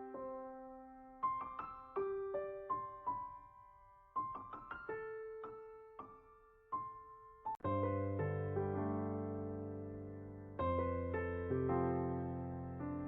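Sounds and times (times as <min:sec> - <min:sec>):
soft solo piano melody: 0:00.0 - 0:13.0.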